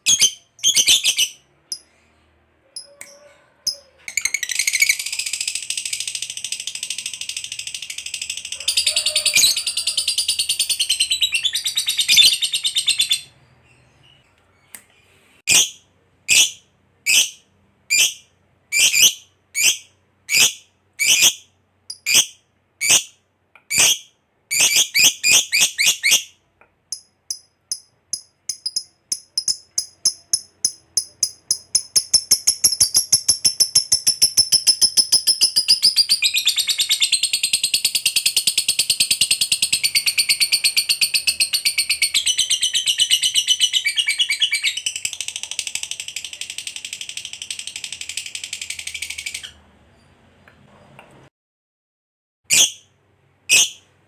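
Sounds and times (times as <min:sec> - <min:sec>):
lovebird chattering and trilling: 0:00.0 - 0:01.9, 0:02.8 - 0:14.2, 0:15.5 - 0:23.1, 0:23.7 - 0:26.3, 0:26.9 - 0:49.6.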